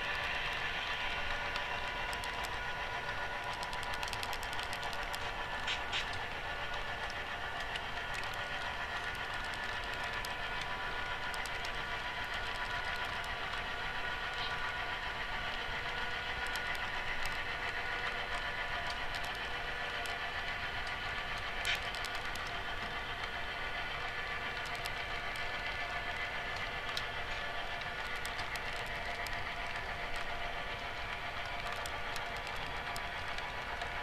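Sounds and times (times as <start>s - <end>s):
model train cars rolling on track: 0.0s - 34.0s.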